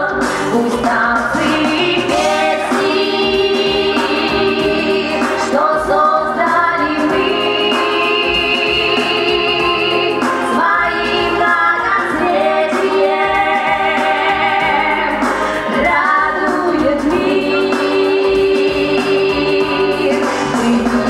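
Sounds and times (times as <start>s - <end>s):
musical accompaniment: 0.0s - 21.0s
women singing: 0.0s - 21.0s.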